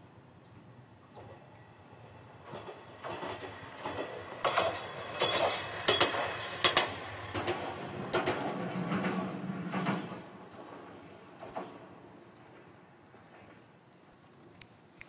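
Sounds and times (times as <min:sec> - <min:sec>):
electric train passing: 0:00.6 - 0:14.2
wheels clacking over rail joints: 0:01.1 - 0:13.8.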